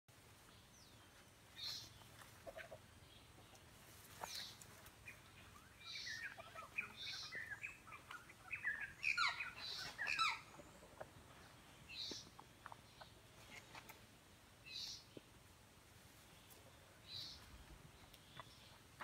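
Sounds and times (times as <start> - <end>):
birds chirping: 0.1 - 19.0.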